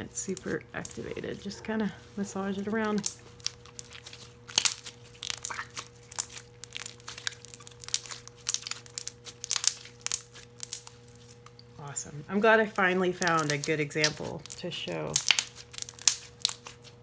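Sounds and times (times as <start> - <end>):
slime clicking and crackling: 0.3 - 1.2, 2.6 - 11.7, 12.8 - 17.0.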